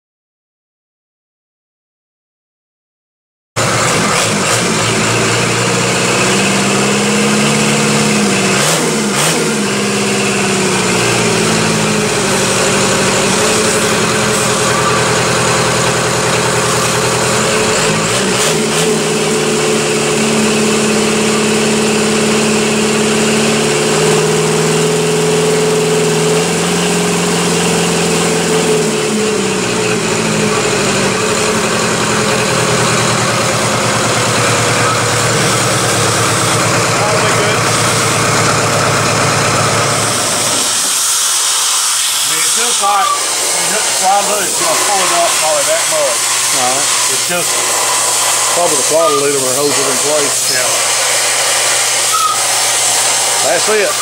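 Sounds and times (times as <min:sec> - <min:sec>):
diesel engine revving: 0:03.6 - 0:54.0.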